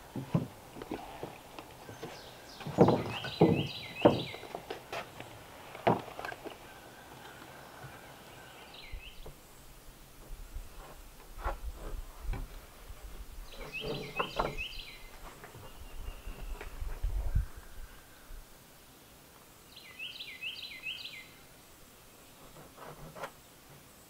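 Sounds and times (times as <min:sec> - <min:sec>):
songbird chirping: 0:00.0 - 0:10.9, 0:11.7 - 0:22.6.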